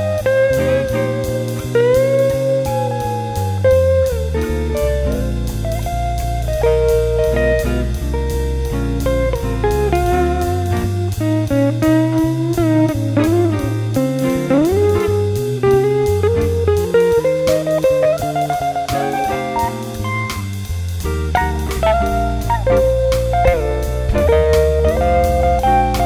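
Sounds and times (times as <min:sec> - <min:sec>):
electric guitar lead with bends: 0:00.0 - 0:26.0
steady drum beat: 0:00.0 - 0:26.0
stepping bass line: 0:00.0 - 0:26.0.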